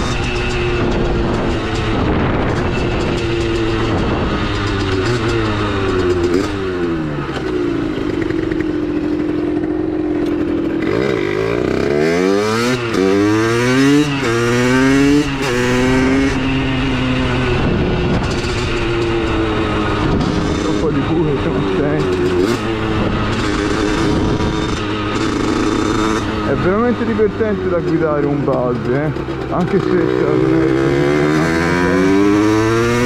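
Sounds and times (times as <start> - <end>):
two-stroke motorcycle engine accelerating: 0.0 - 33.0.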